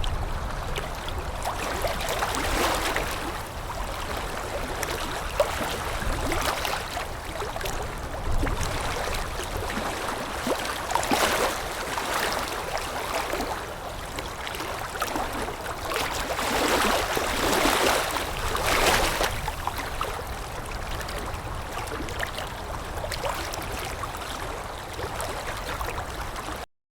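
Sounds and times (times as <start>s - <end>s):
water lapping against a shore: 0.0s - 26.6s.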